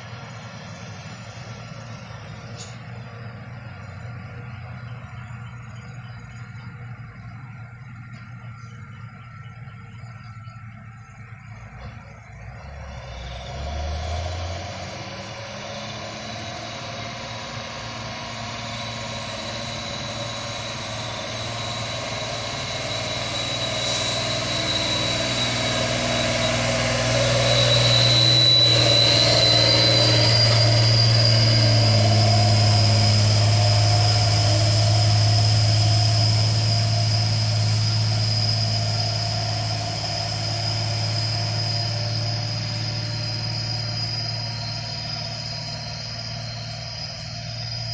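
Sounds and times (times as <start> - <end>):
faint high whine: 0.0 - 47.9
truck engine humming: 0.0 - 47.9.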